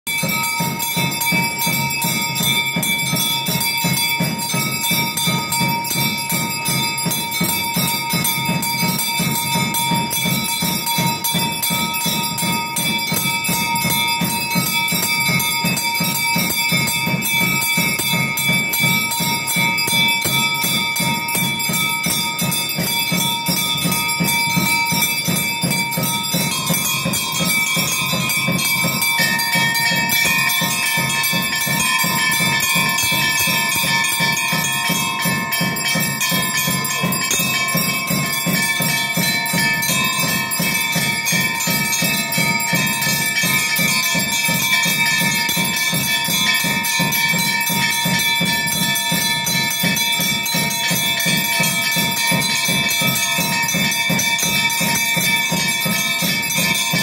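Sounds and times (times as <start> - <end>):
temple bells ringing rapidly: 0.1 - 57.0.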